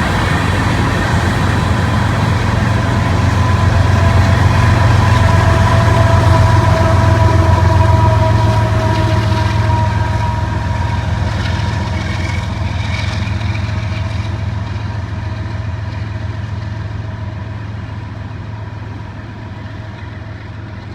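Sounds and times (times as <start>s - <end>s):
diesel locomotive engine drone: 0.0s - 20.9s.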